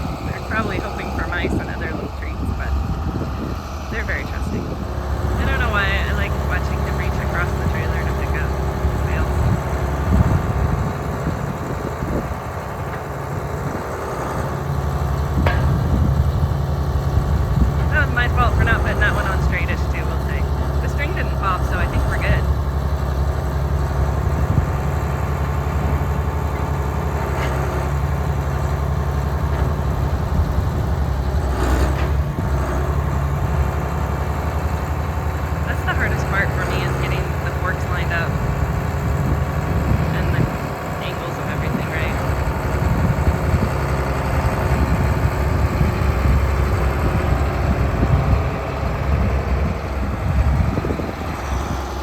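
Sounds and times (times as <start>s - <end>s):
farm machinery engine humming: 0.0s - 52.0s.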